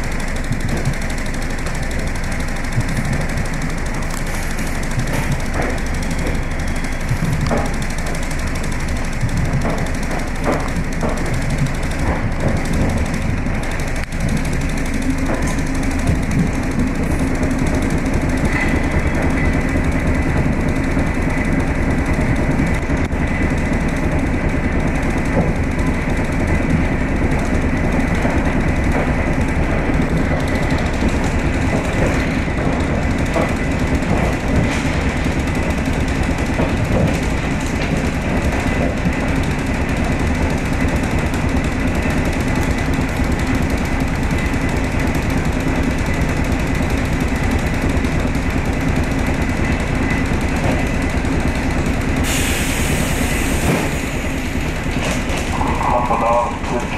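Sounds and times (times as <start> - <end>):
train carriage rumble and rattle: 0.0 - 56.9.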